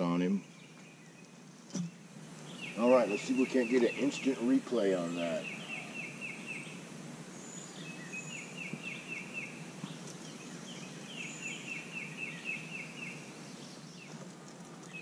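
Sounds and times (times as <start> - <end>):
songbird singing falling notes: 0.0 - 6.8, 7.4 - 15.0
outdoor background noise: 0.0 - 15.0.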